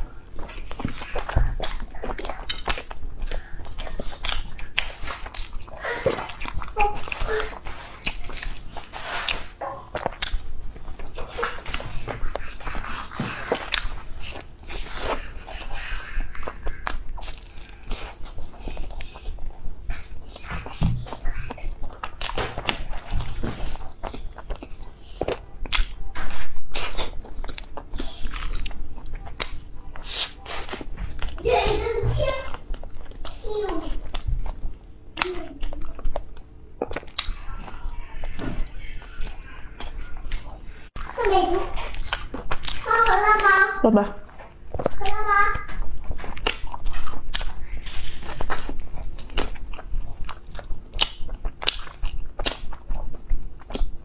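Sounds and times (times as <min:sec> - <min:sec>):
chewing and biting soft bread: 0:00.0 - 0:54.0.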